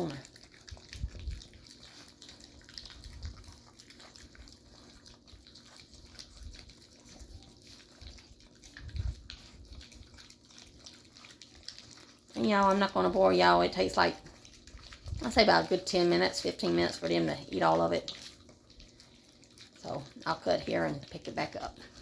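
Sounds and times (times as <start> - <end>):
puppies lapping wet food: 0.0 - 22.0.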